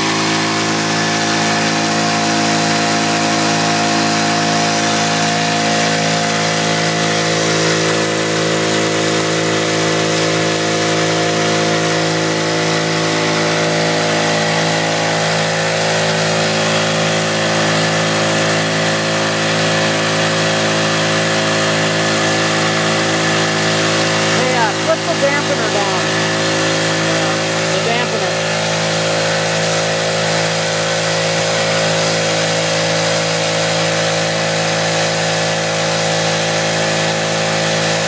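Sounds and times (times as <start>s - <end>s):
dredge motor and pump humming: 0.0s - 38.0s.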